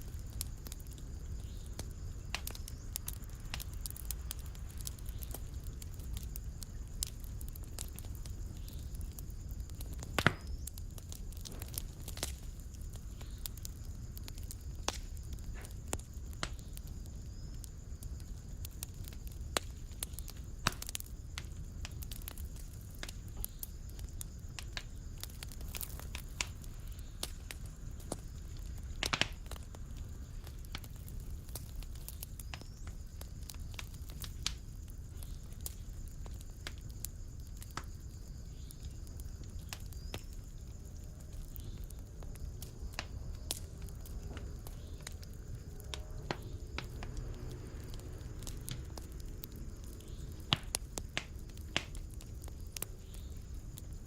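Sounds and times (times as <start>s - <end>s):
fire crackling in a fireplace: 0.0s - 54.0s.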